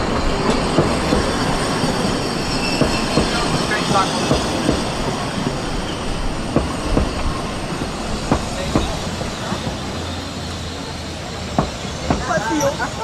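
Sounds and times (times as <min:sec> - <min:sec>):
train rumble: 0:00.0 - 0:13.0
train wheels clicking over rail joints: 0:00.0 - 0:13.0.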